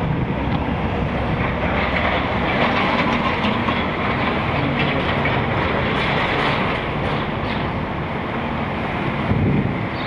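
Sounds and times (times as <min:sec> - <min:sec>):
rushing air: 0:00.0 - 0:04.5, 0:05.8 - 0:10.0.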